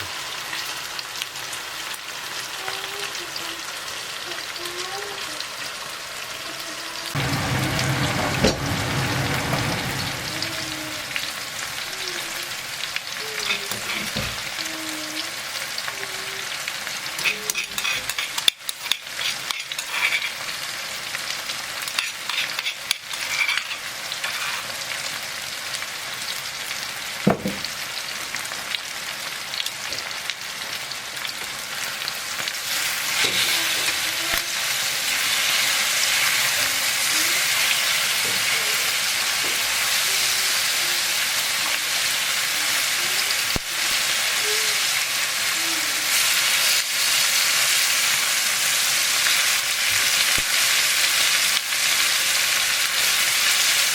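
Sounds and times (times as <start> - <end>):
food sizzling in hot oil: 0.0 - 53.9.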